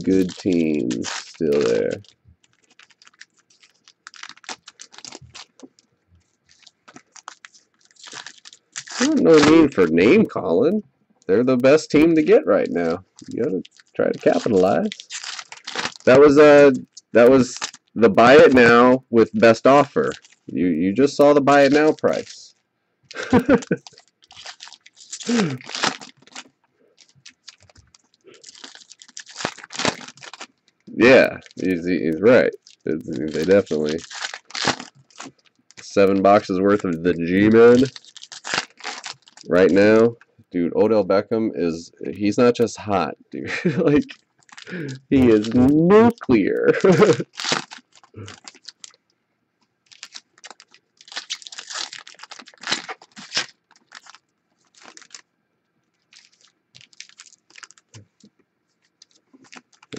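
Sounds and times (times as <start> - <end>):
foil wrappers crinkling: 0.0 - 10.4, 11.3 - 40.4, 43.5 - 49.0, 49.8 - 55.3, 55.9 - 59.9.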